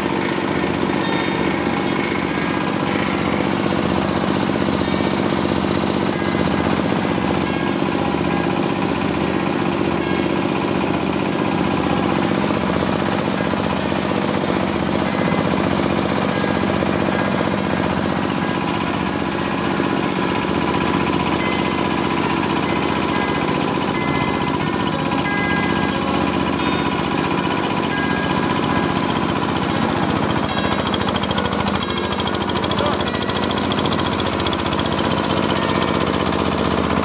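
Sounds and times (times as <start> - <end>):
engine pulsing: 0.0 - 37.0.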